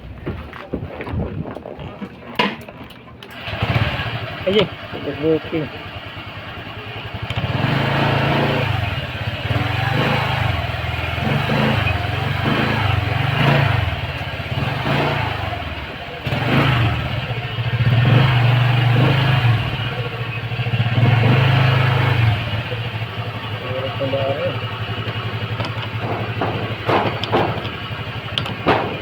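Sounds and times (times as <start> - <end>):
motorcycle engine revving: 3.2 - 29.0.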